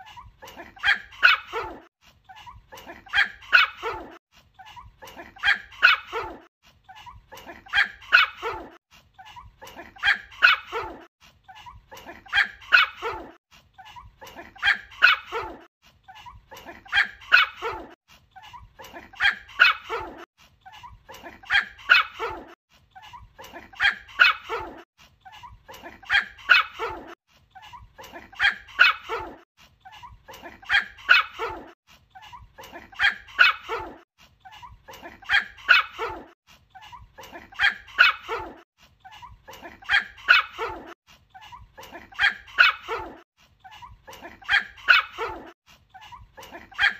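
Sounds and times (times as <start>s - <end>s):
small dog yapping: 0.1s - 46.9s.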